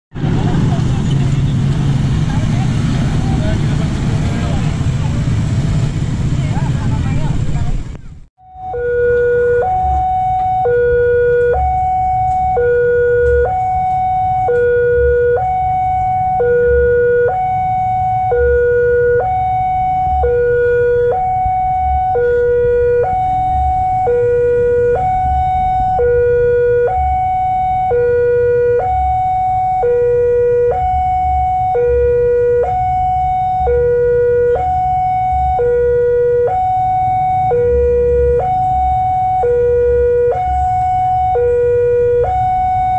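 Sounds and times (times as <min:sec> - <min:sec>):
level crossing two-tone alarm: 0:08.4 - 0:42.9.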